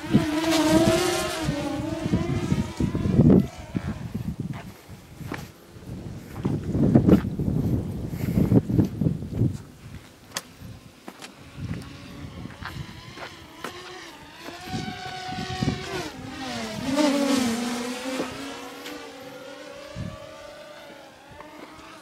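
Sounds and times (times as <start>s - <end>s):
engine passing by: 0.0s - 8.6s, 10.8s - 22.0s.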